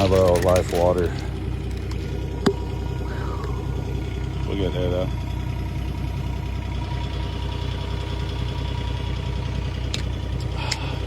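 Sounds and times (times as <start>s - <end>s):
road noise: 0.0s - 11.0s
vehicle engine running: 0.0s - 11.0s.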